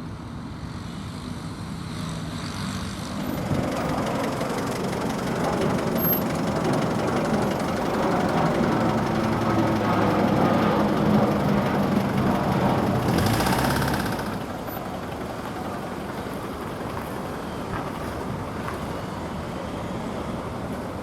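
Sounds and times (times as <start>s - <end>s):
turboprop aircraft drone: 0.0s - 21.0s.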